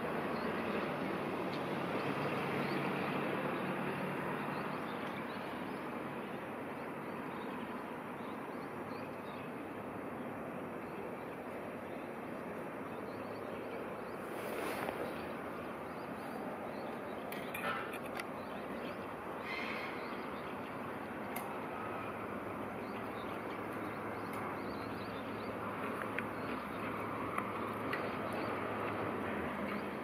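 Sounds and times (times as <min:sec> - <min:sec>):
train running with low hum: 0:00.0 - 0:30.0.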